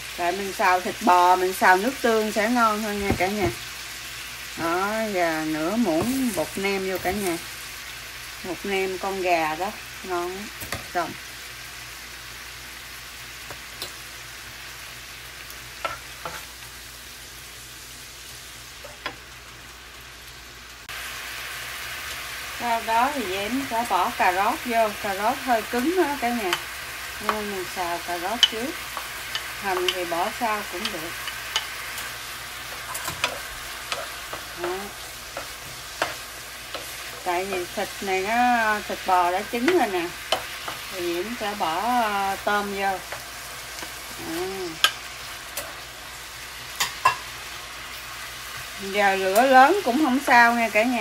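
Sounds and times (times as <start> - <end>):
food sizzling in oil: 0.0 - 51.0.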